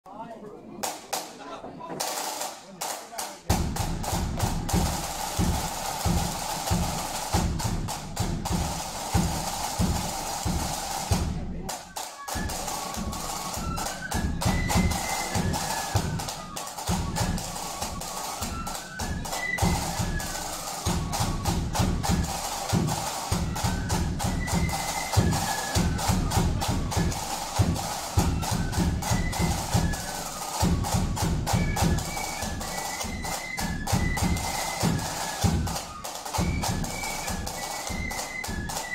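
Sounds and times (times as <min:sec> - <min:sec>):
snare drums: 0:00.8 - 0:38.9
flutes playing a tune: 0:03.6 - 0:38.9.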